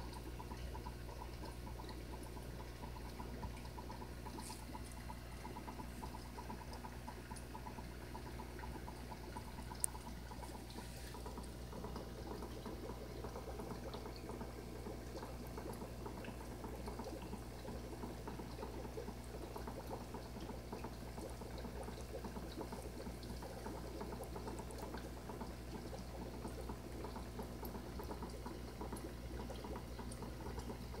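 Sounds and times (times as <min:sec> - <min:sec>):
aquarium filter water bubbling: 0:00.0 - 0:31.0.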